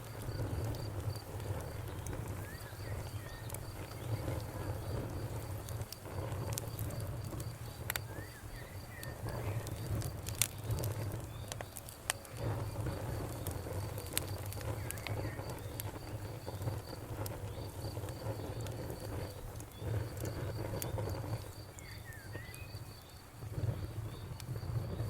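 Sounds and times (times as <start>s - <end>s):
insect chirping: 0.0s - 25.0s
low rumble of burning: 0.0s - 25.0s
sharp pops of fire: 0.0s - 25.0s
wood fire crackling: 0.0s - 25.0s.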